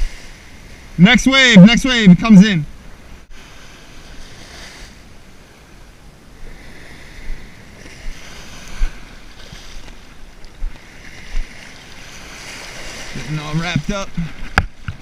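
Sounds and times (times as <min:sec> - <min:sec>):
ocean surf washing in: 0:00.0 - 0:15.0.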